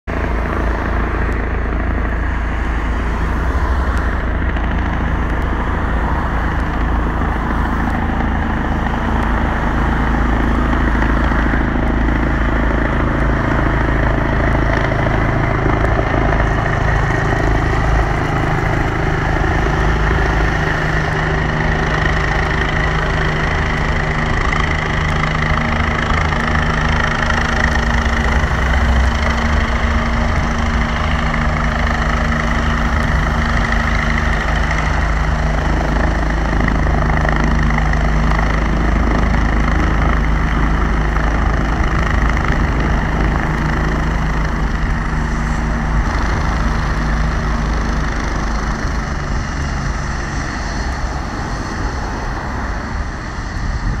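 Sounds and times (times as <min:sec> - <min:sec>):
helicopter rotor beat: 0:00.0 - 0:54.0
high turbine whine: 0:00.1 - 0:54.0.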